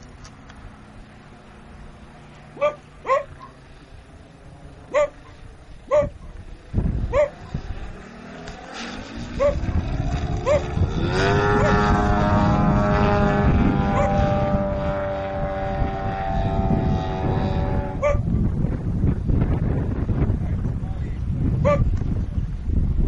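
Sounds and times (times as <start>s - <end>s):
model plane motor running: 0.0s - 18.6s
wind rumble on microphone: 0.0s - 23.0s.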